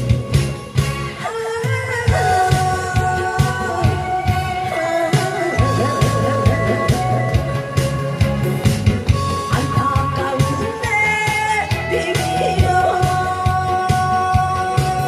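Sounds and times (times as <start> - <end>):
instrumental backing music: 0.0 - 15.0
steady drum beat: 0.0 - 15.0.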